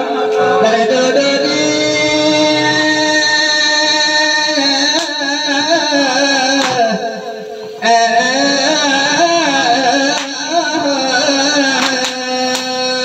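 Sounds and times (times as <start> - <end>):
person chanting into a microphone: 0.0 - 13.0.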